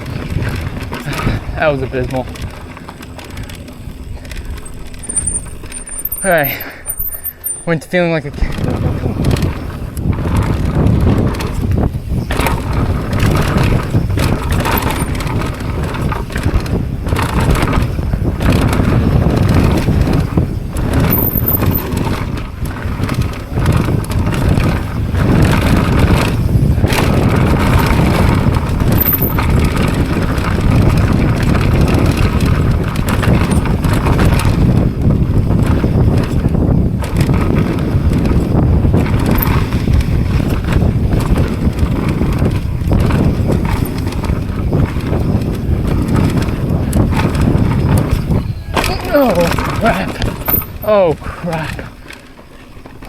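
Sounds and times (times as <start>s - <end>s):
bike clattering over bumps: 0.0s - 53.0s
tyres on dirt and rock: 0.0s - 53.0s
wind on microphone: 0.0s - 53.0s.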